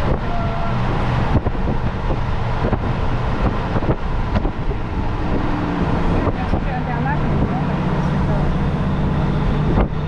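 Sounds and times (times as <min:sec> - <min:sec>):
road noise: 0:00.0 - 0:10.0
vehicle engine hum: 0:00.0 - 0:10.0
wind buffeting microphone: 0:00.0 - 0:10.0.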